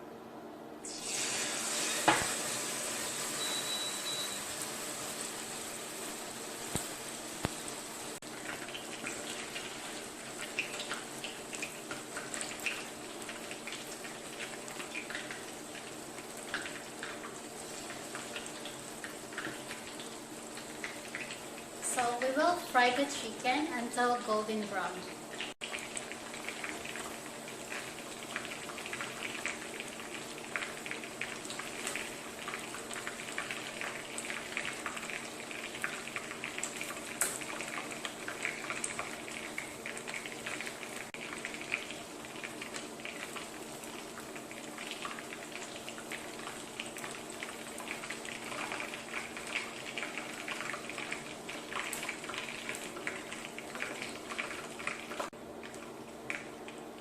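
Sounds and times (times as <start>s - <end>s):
chicken deep-frying in oil: 0.8s - 57.0s.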